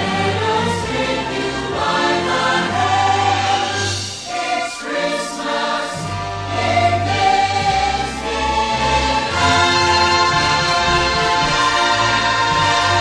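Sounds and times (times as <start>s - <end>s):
choir singing sustained notes: 0.0s - 13.0s
orchestral music: 0.0s - 13.0s.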